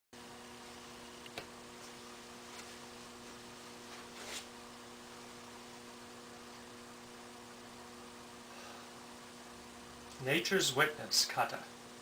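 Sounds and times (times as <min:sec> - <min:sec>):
electrical mains hum: 0:00.2 - 0:12.0.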